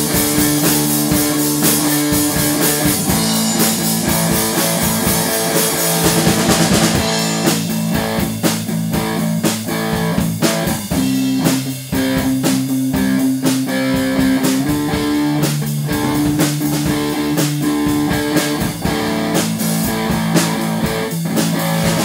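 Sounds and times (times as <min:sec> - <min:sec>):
electric guitar through amplifier: 0:00.0 - 0:22.0.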